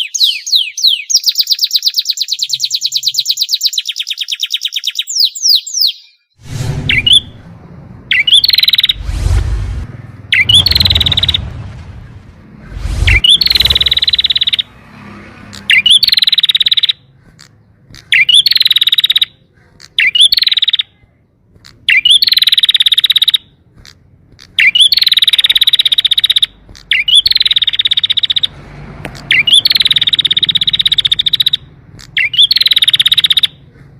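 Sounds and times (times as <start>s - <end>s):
canary singing trills: 0.0s - 7.4s, 8.1s - 9.0s, 10.3s - 11.6s, 13.0s - 14.7s, 15.5s - 33.9s.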